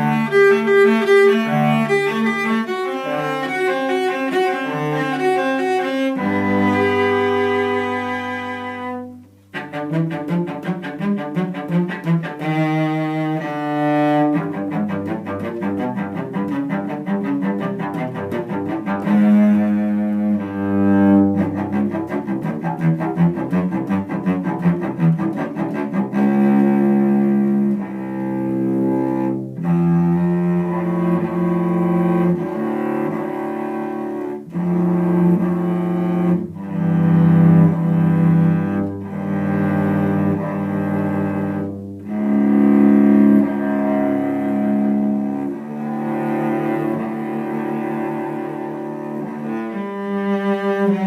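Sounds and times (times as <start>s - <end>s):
bowed cello notes: 0.0s - 51.0s.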